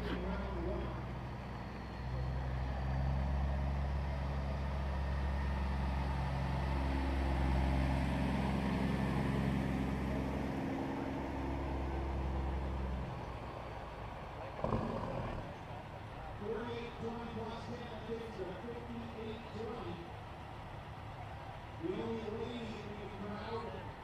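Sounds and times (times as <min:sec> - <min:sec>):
truck diesel engine driving past: 0:00.0 - 0:24.0.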